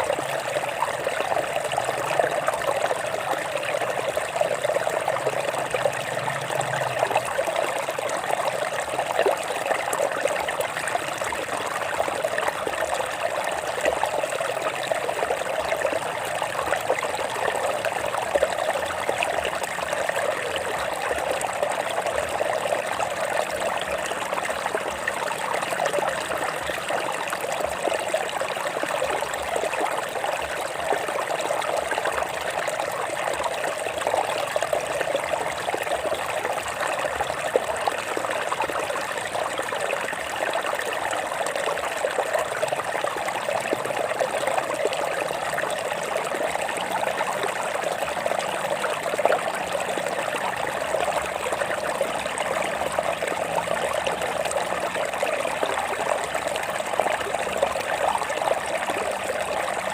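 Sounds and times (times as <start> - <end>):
stream water running over rocks: 0.0 - 59.9.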